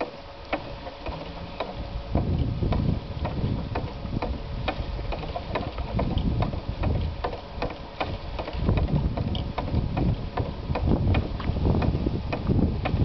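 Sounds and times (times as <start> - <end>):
windmill mechanism clicking and knocking: 0.0 - 13.0
wind buffeting microphone: 0.7 - 13.0.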